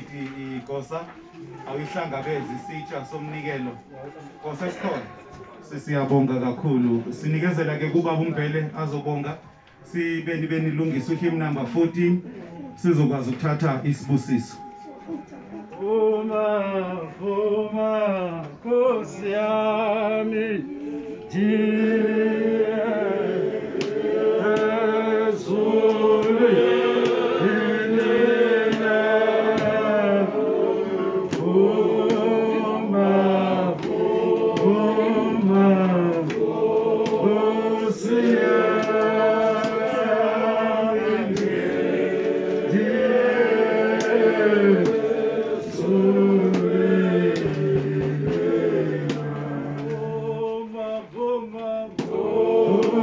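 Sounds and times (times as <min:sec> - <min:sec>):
congregation singing a hymn: 0:00.0 - 0:08.5, 0:12.6 - 0:53.0.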